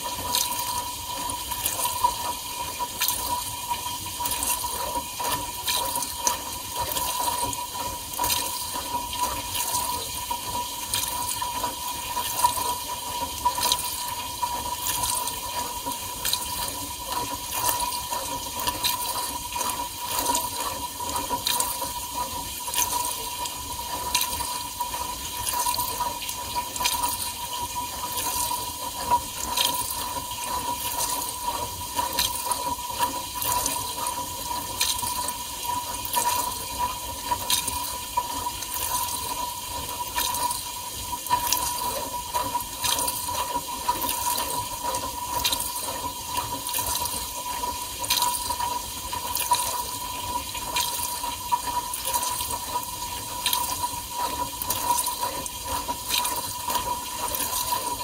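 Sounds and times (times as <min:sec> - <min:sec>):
water splashing in dishwasher: 0:00.0 - 0:58.0.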